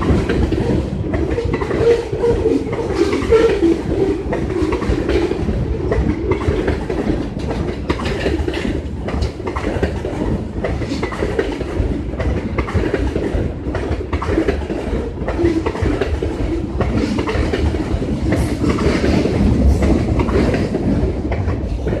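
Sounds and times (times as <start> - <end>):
railroad cars rumbling past: 0.0 - 22.0.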